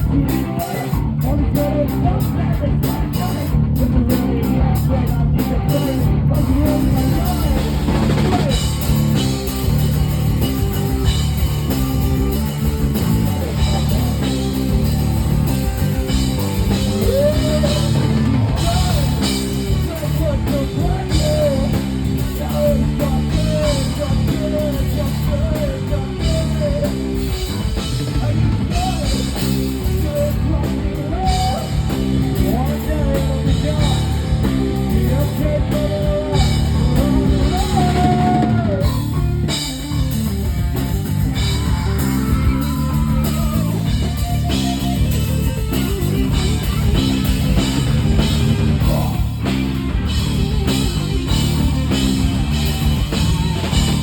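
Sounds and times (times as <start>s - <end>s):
rock music with singing: 0.0s - 54.0s.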